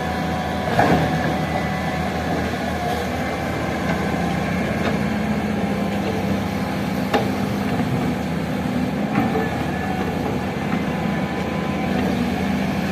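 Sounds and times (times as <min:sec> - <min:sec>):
heavy diesel engine running: 0:00.0 - 0:12.9.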